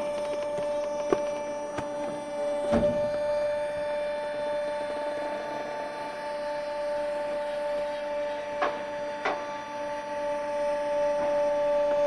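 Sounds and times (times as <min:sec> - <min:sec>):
trash compactor humming: 0:00.0 - 0:12.0.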